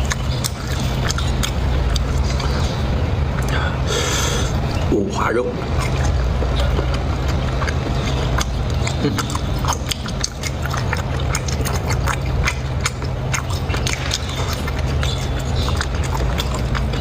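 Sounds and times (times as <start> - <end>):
person chewing and smacking: 0.0 - 4.9, 5.5 - 17.0
steady low hum: 0.0 - 17.0.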